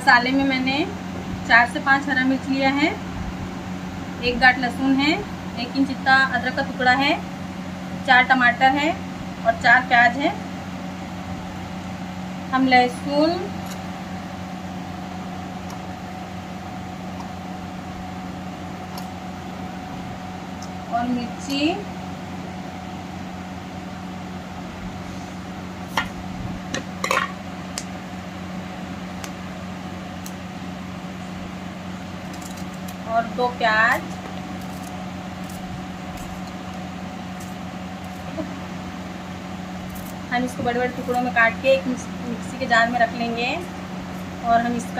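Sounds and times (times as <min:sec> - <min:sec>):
machine hum with hiss: 0:00.0 - 0:44.9.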